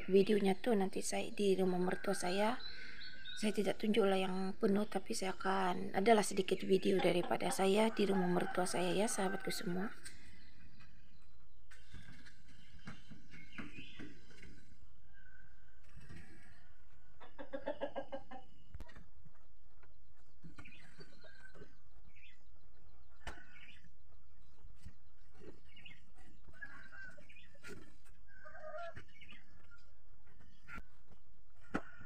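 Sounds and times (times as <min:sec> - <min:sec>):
chickens clucking: 0:00.0 - 0:10.1, 0:10.7 - 0:22.0, 0:24.4 - 0:32.0.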